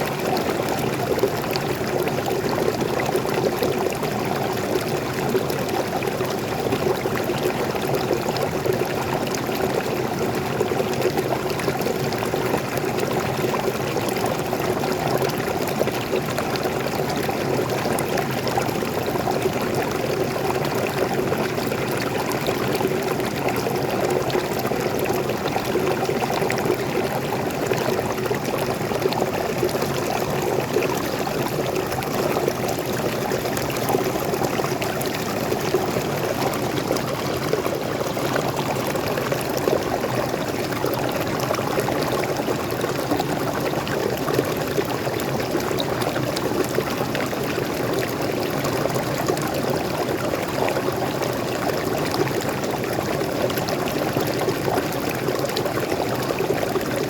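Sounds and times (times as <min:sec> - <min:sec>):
small waterfall into stream: 0:00.0 - 0:57.0.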